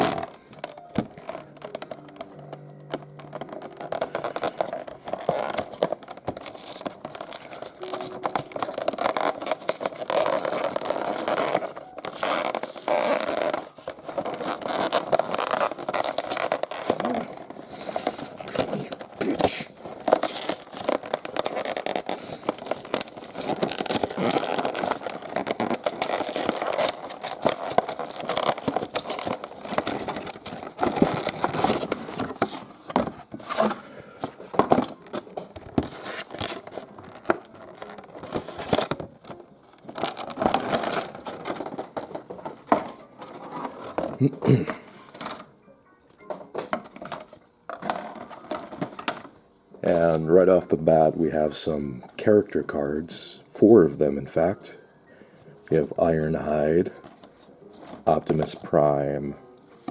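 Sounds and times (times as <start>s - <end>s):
packaging crinkling and tearing: 0.0s - 45.5s, 46.5s - 51.6s, 55.7s - 59.9s.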